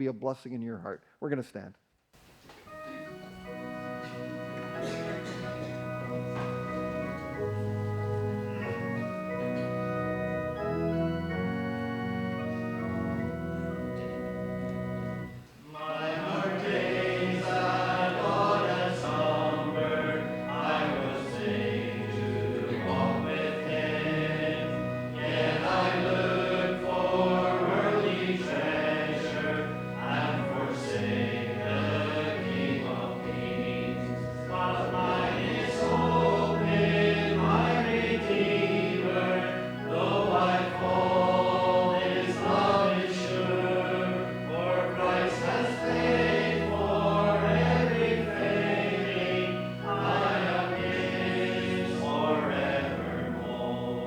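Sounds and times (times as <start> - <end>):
hymn accompaniment held notes: 2.2 - 54.0
congregation singing a hymn: 2.6 - 54.0.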